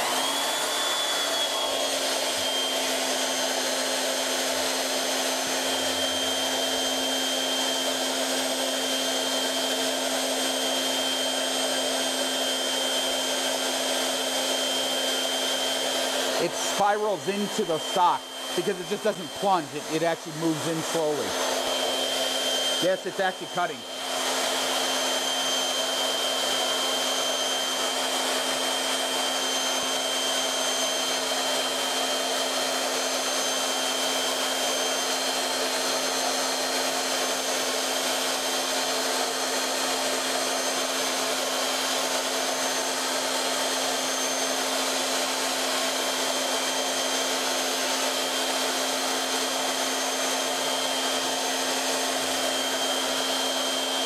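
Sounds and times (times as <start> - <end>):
milling machine spindle whirring: 0.0 - 54.0.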